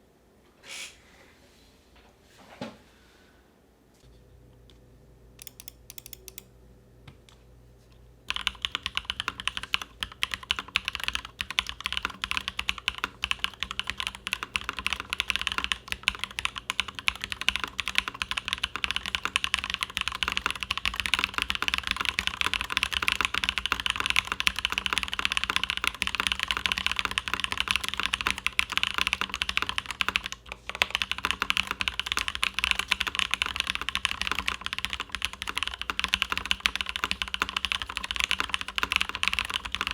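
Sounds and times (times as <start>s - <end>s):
typing on mechanical keyboard: 5.4s - 6.5s, 8.3s - 39.9s.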